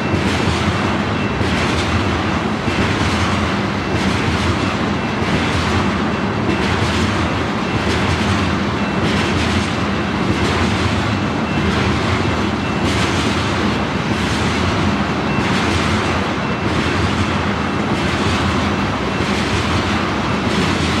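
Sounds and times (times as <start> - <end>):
train clickety-clack: 0.0 - 21.0
train wheels rumbling on rail: 0.0 - 21.0.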